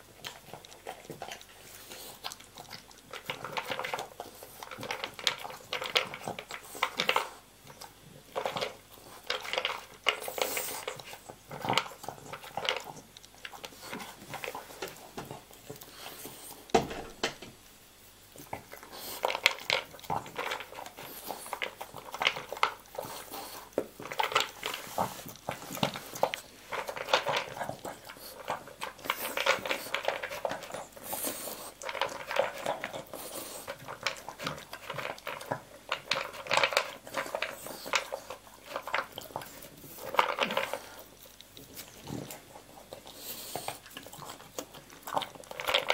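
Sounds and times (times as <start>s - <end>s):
kibble rattling in plastic bowl: 3.1s - 15.4s, 19.0s - 42.5s, 43.9s - 45.9s.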